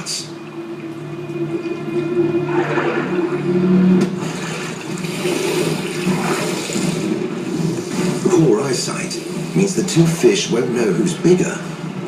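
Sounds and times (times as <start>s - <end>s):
low musical drone: 0.0s - 12.0s
rushing water: 0.0s - 12.0s.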